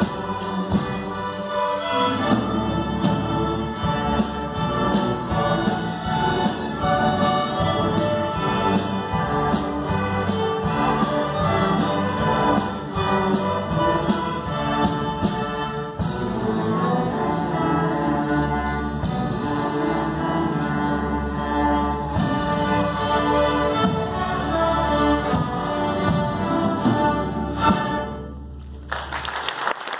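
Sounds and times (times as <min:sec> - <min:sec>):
string orchestra playing: 0:00.0 - 0:29.3.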